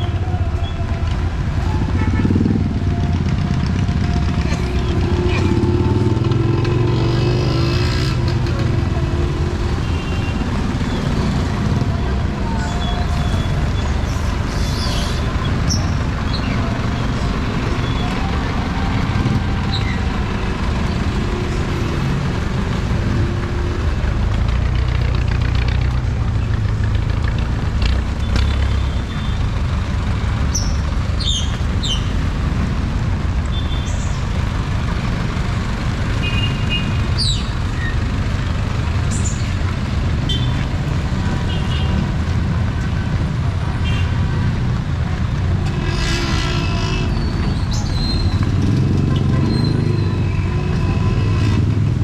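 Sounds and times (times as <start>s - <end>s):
traffic on wet road: 0.0s - 52.0s.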